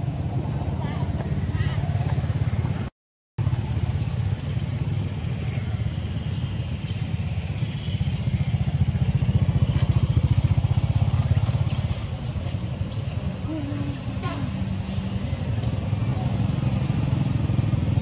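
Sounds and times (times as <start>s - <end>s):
small engine running: 3.4s - 18.0s.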